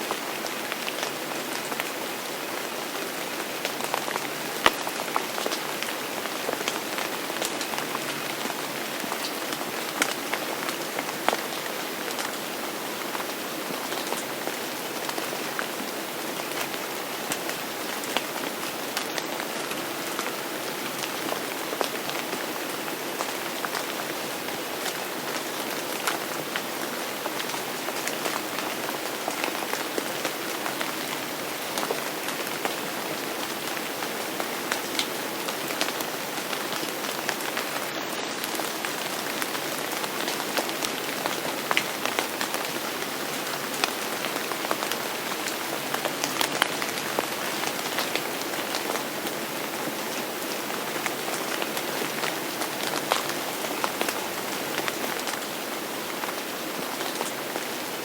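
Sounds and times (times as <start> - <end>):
rain drops ticking on surface: 0.0 - 58.0
rain hiss: 0.0 - 58.0.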